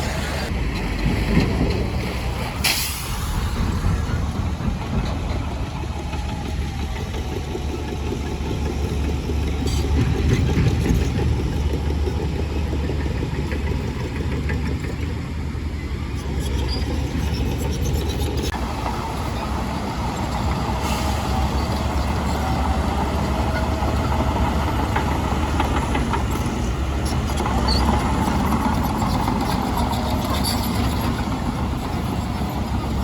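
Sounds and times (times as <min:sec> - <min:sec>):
heavy diesel machinery rumbling: 0:00.0 - 0:33.0
metal clanks and squeaks: 0:04.0 - 0:15.2, 0:16.1 - 0:18.6, 0:19.2 - 0:33.0.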